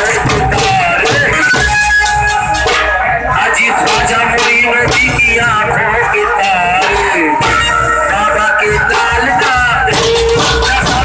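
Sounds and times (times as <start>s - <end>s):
barrel drums beaten with sticks: 0.0s - 11.0s
man singing through loudspeaker: 0.0s - 11.0s.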